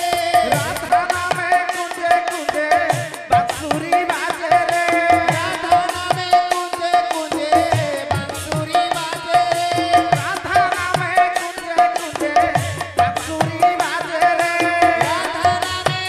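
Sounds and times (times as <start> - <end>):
hand drum and percussion: 0.0 - 16.0.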